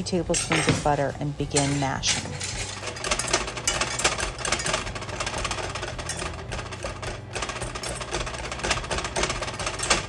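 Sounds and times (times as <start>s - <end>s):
whisk scraping a metal pan: 0.1s - 9.1s.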